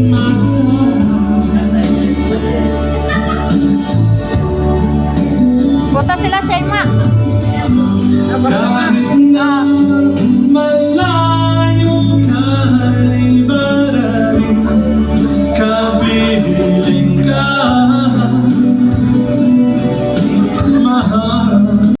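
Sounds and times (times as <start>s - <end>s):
man singing over beat and bass: 0.0s - 22.0s.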